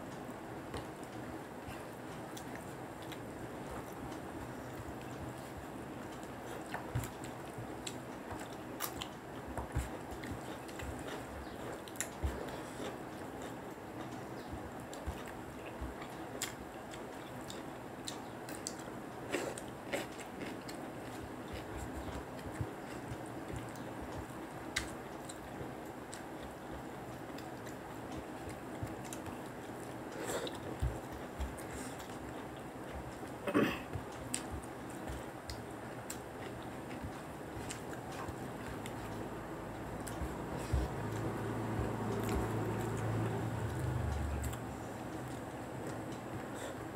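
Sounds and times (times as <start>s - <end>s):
steady background hum: 0.0s - 46.9s
chewing and mouth sounds: 0.7s - 46.9s.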